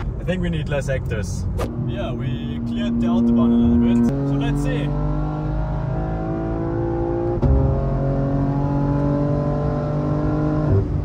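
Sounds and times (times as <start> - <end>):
car engine at full throttle: 1.0 - 11.0.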